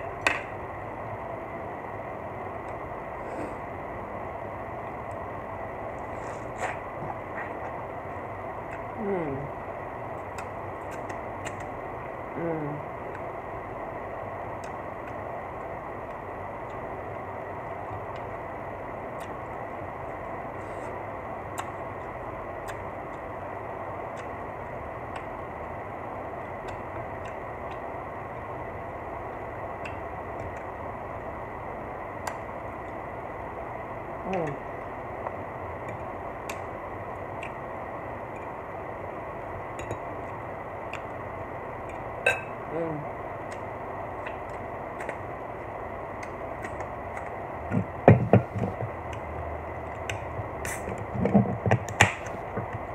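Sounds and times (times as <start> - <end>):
steady background hum: 0.0 - 52.9.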